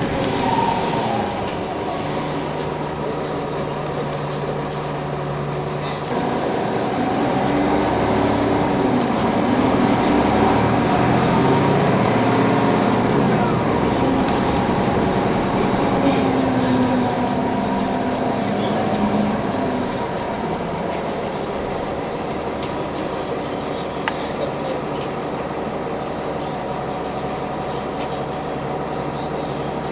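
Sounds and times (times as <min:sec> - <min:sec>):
bus engine accelerating: 0:00.0 - 0:29.9.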